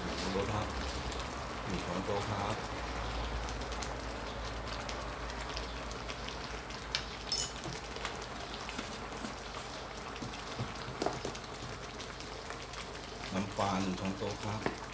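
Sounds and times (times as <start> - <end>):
curry bubbling in a wok: 0.0 - 14.9.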